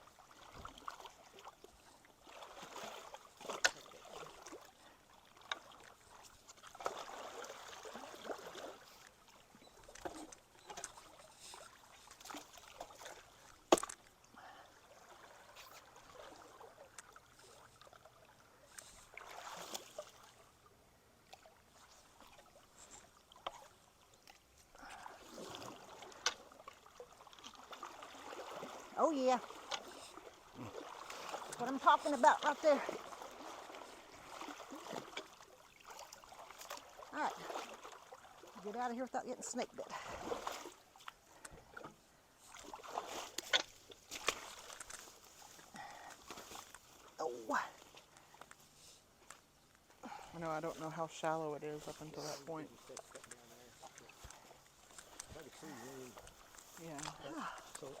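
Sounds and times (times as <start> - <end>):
creek water splashing: 0.0 - 58.0.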